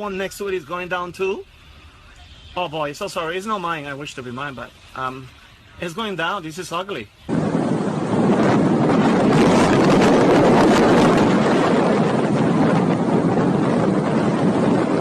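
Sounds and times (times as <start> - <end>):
strong wind roaring on microphone: 2.7 - 15.0.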